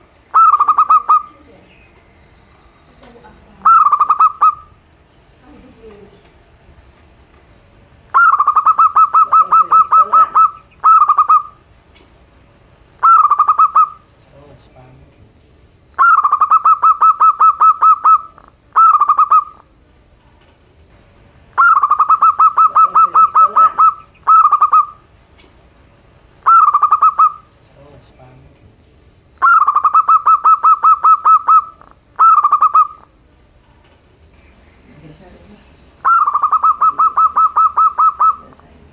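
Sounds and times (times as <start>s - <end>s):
dove cooing: 0.0s - 7.0s, 7.7s - 38.9s.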